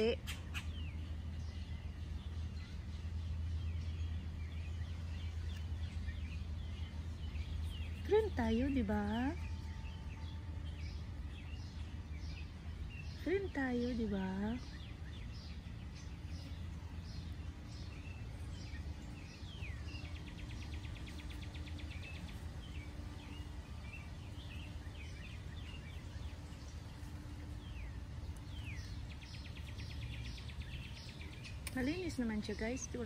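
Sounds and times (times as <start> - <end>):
songbirds singing: 0.0 - 33.0.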